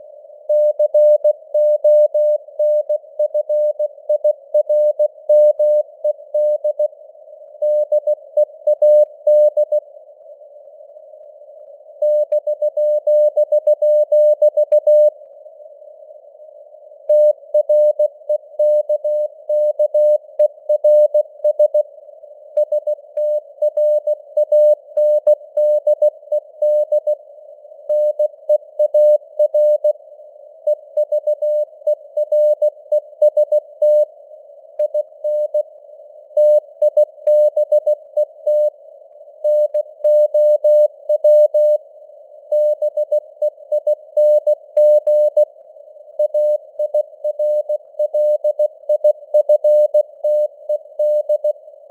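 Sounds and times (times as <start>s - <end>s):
receiver hiss: 0.0s - 51.9s.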